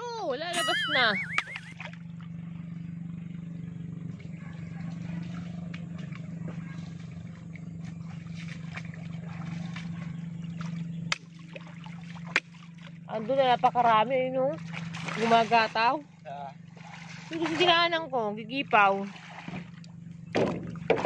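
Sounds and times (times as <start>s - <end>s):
steady low hum: 0.0s - 21.0s
water sloshing around wading person: 0.9s - 21.0s.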